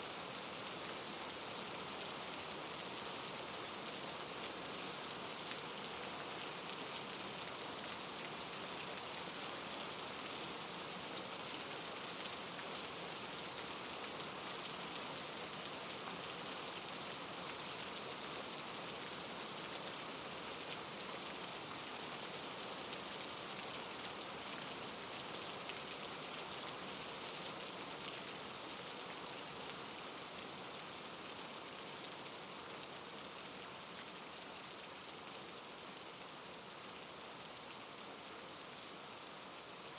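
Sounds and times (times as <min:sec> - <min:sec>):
soft rain hiss: 0:00.0 - 0:39.9.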